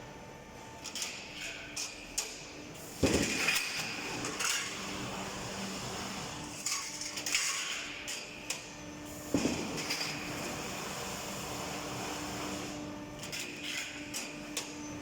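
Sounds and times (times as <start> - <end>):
roll forming machine humming: 2.0 - 15.0.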